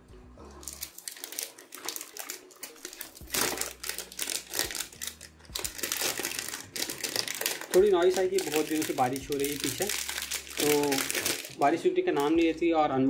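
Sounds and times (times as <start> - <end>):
plastic wrapping crinkling: 0.6 - 12.6.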